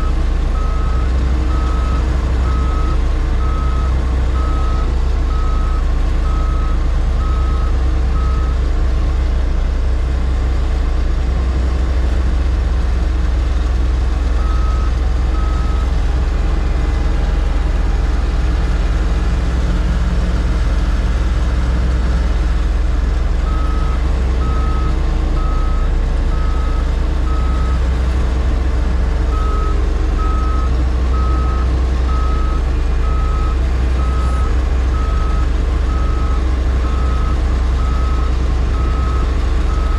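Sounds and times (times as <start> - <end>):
heavy diesel equipment running: 0.0 - 39.9.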